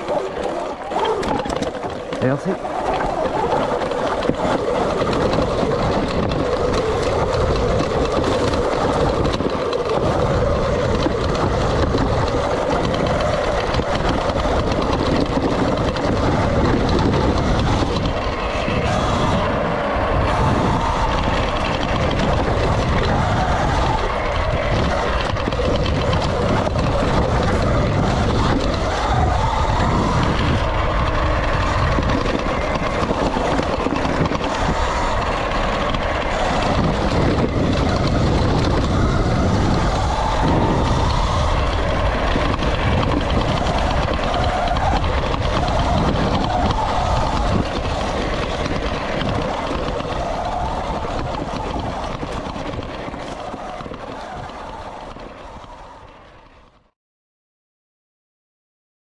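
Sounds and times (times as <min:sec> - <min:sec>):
wind on microphone: 0:00.0 - 0:56.9
heavy rumble of bike: 0:00.0 - 0:57.0.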